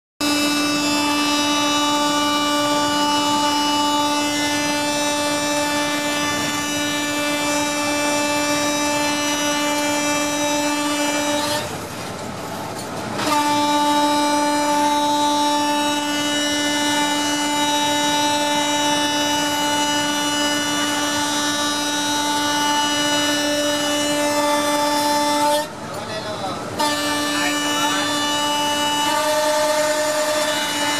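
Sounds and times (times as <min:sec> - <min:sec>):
locomotive horn blasts: 0:00.2 - 0:30.9.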